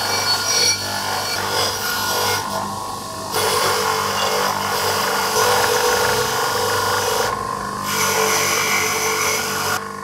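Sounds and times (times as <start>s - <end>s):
bench grinder motor humming: 0.0s - 10.0s.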